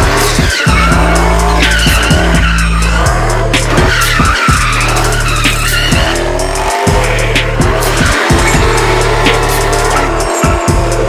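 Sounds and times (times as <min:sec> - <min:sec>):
car tyres squealing: 0:00.0 - 0:11.0
music with deep bass and fast beat: 0:00.0 - 0:11.0.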